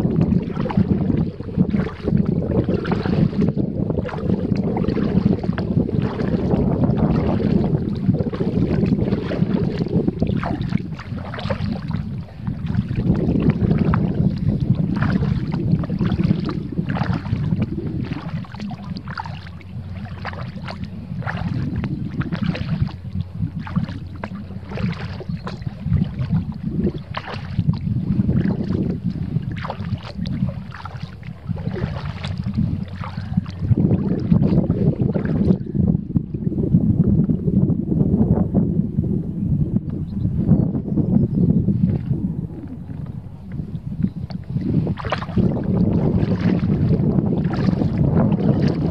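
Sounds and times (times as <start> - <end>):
paddle splashing in water: 0.0 - 35.9, 41.8 - 48.9
wind buffeting microphone: 0.0 - 48.9.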